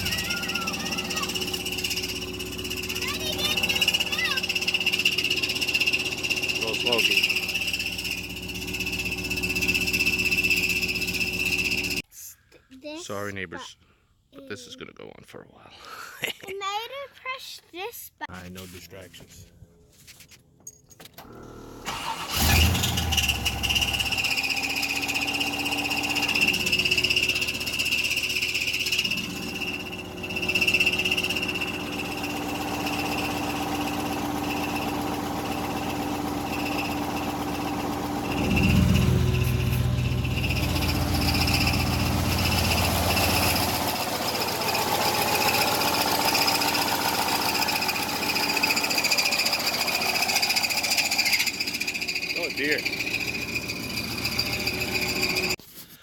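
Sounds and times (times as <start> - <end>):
high-pitched engine screeching: 0.0 - 12.0, 21.8 - 55.6
truck engine rumbling: 0.0 - 12.0, 21.2 - 55.6.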